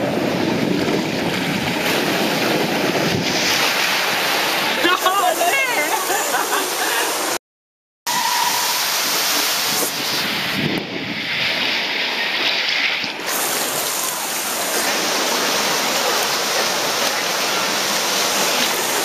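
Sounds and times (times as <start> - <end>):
splashing falling water: 0.0 - 7.4, 8.1 - 19.0.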